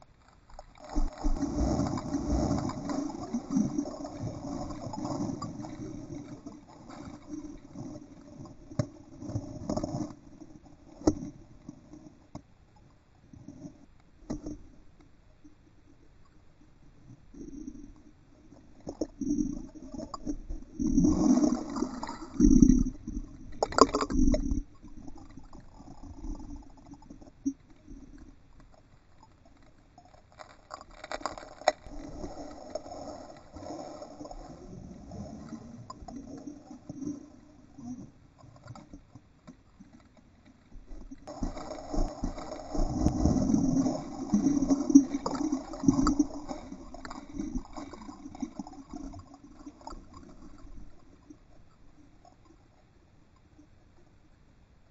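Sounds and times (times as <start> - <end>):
muffled water sloshing and splashing: 0.0 - 12.3, 17.8 - 52.7.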